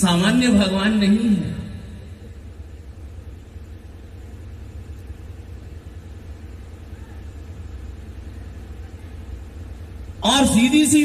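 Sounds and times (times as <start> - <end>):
faint even hum: 0.0 - 11.0.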